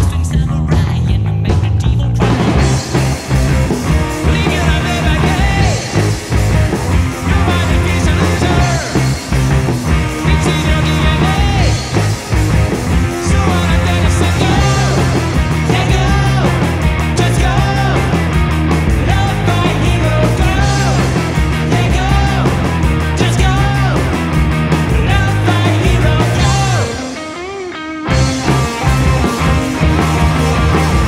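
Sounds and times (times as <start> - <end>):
strong steady bass: 0.0 - 26.9, 28.1 - 31.0
rock song with vocals: 0.0 - 31.0.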